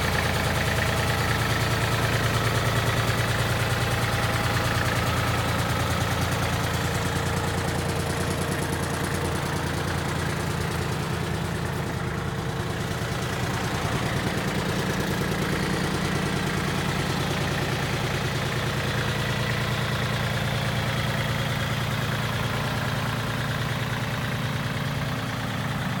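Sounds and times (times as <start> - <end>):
diesel engine running steadily: 0.0 - 26.0.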